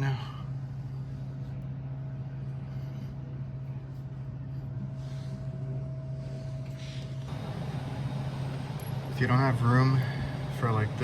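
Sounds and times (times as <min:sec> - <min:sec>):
faint high whine: 0:00.0 - 0:11.0
low motor hum: 0:00.0 - 0:11.0.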